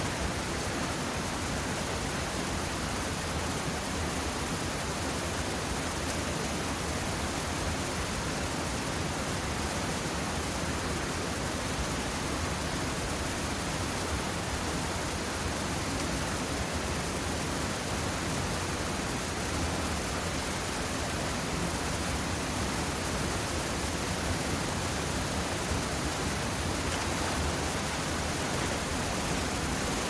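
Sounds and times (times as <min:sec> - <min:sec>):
river flowing over rocks: 0:00.0 - 0:30.0.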